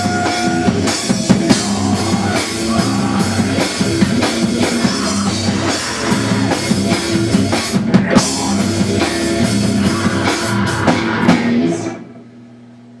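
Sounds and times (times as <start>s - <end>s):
rock music with drums and guitar: 0.0s - 12.2s.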